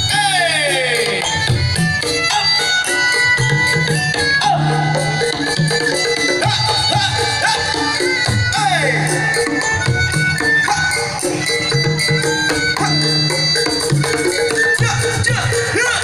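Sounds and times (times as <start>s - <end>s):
drums beating: 0.0s - 16.0s
shawm melody: 0.0s - 16.0s.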